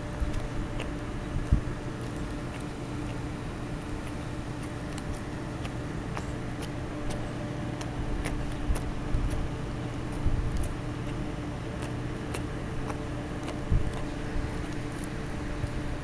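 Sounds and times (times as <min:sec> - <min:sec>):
dog crunching kibble: 0:00.0 - 0:16.0
mechanical hum: 0:00.0 - 0:16.0
soft chewing thumps: 0:00.0 - 0:16.0.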